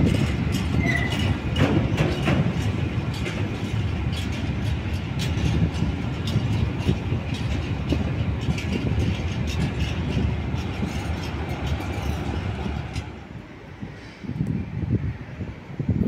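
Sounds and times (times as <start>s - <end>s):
wheels clicking over rail joints: 0.0s - 13.6s
freight train rumbling past: 0.0s - 16.0s.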